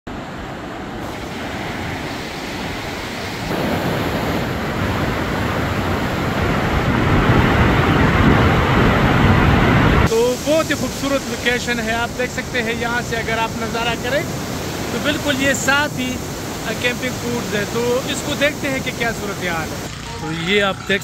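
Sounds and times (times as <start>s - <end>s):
river rushing over rocks: 1.0s - 19.9s.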